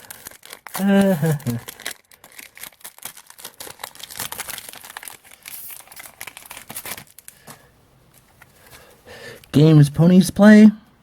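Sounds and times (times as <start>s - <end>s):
plastic wrapper crinkling: 0.0s - 8.9s.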